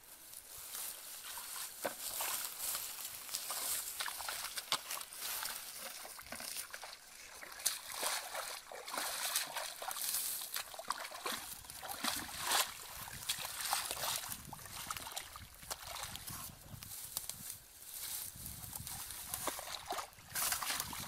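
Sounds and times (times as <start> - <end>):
bare feet wading through mud: 0.5 - 21.0
squelches and small splashes: 1.3 - 16.4, 18.8 - 21.0.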